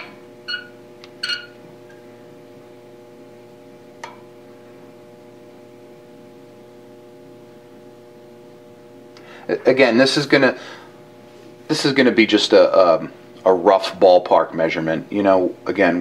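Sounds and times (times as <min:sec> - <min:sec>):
mains hum: 0:00.0 - 0:16.0.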